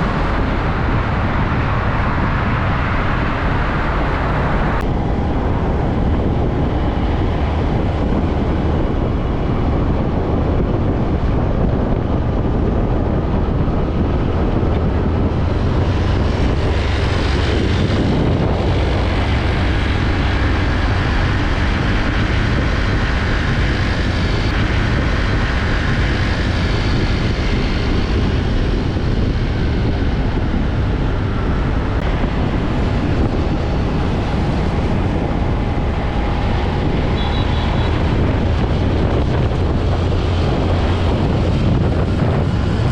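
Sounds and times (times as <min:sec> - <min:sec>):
trucks driving past: 0:00.0 - 0:42.9.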